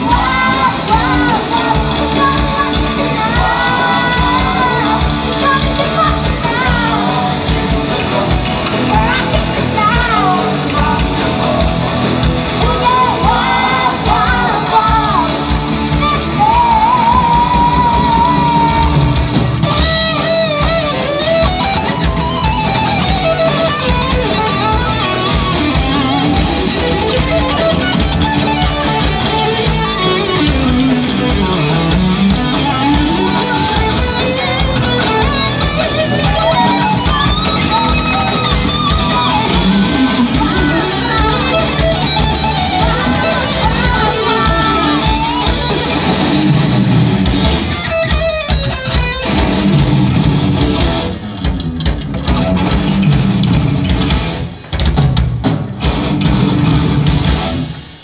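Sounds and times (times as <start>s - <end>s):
live rock band playing: 0.0s - 58.0s
melody line over band: 0.0s - 58.0s.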